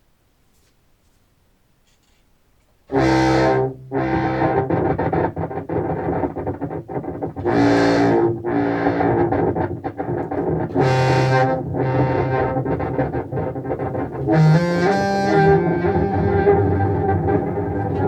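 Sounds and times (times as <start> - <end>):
contrabass clarinet with delay effects: 2.9 - 18.0.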